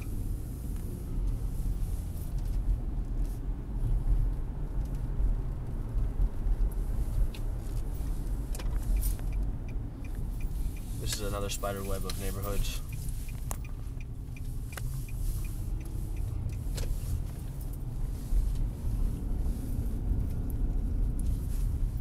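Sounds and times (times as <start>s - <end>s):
car driving rumble from inside: 0.0s - 22.0s.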